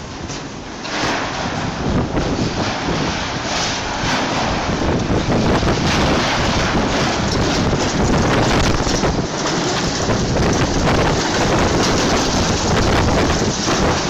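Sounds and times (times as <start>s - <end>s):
strong wind on microphone: 0.9s - 14.0s.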